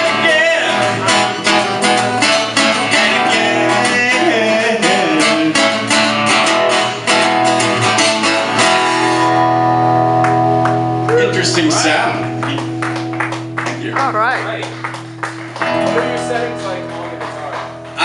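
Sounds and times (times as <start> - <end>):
guitar strumming: 0.0 - 18.0.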